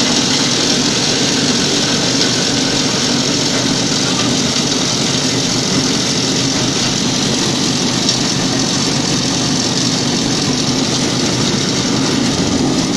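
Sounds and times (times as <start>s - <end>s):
grinding machine droning: 0.0s - 12.9s.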